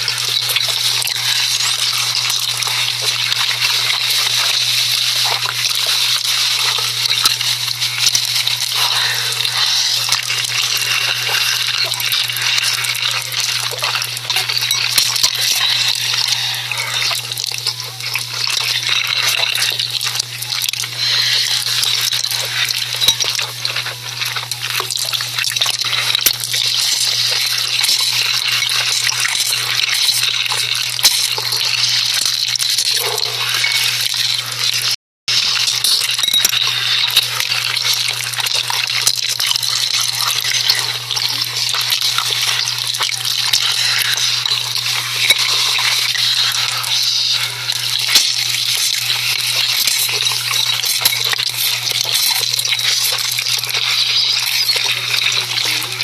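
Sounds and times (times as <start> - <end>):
dense crackle of small clicks: 0.0 - 56.0.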